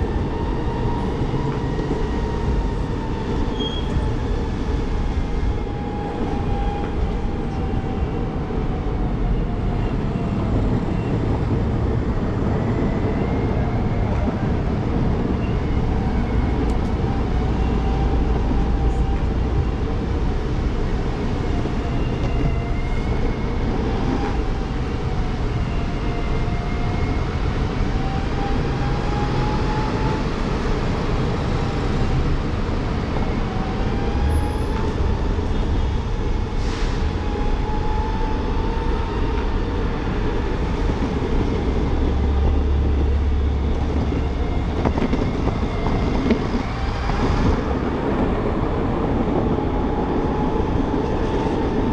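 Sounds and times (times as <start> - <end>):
wind and wheels rumbling on road: 0.0 - 51.9.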